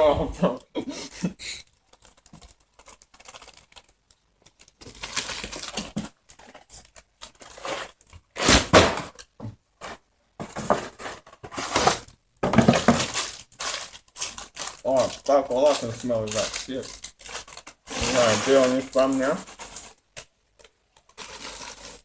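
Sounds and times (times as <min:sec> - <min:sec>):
packaging tearing and crinkling: 0:01.8 - 0:09.3, 0:11.6 - 0:22.0.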